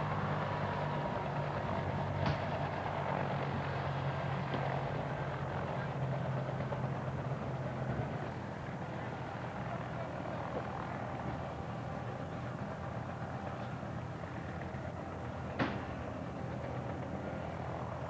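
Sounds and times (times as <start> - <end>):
distant propeller plane drone: 0.0 - 18.0.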